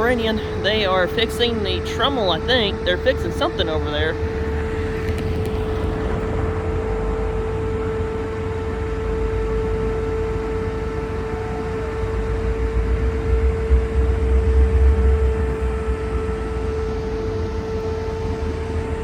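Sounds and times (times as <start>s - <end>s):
low rumble: 0.0s - 19.0s
machine hum with steady tone: 0.0s - 19.0s.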